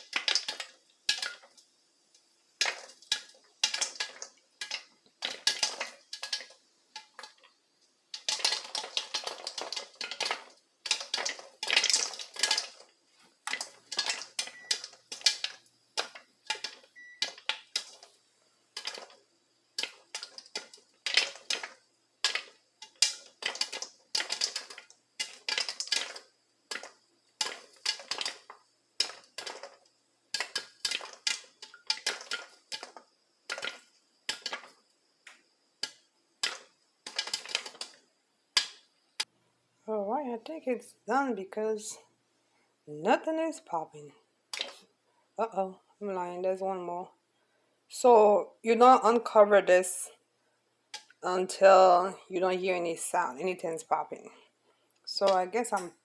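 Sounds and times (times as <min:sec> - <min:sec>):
popcorn popping in a pan: 0:00.0 - 0:39.3, 0:43.2 - 0:45.0, 0:50.8 - 0:56.0.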